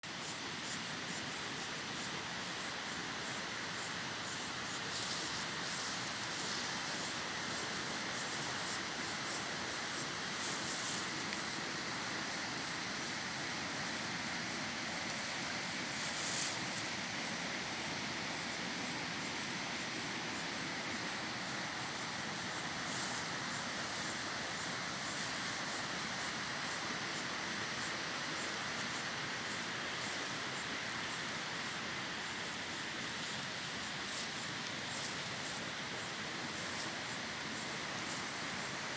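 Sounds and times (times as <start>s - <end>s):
small stream running: 0.0s - 38.9s
hissing water surges: 0.4s - 38.9s.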